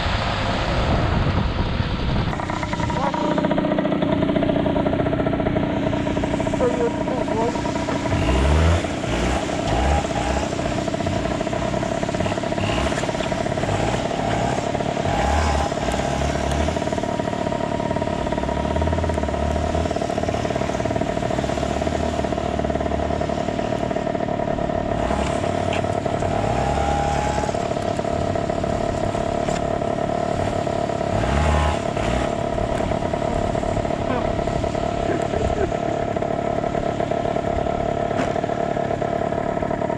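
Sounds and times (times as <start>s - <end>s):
dirt bike engine droning: 0.0s - 39.9s.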